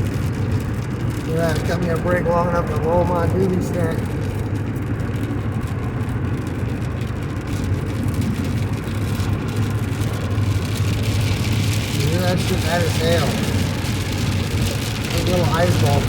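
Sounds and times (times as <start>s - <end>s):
hail and rain hitting vehicle: 0.0s - 16.0s
road noise: 0.0s - 16.0s
vehicle engine running: 0.0s - 16.0s.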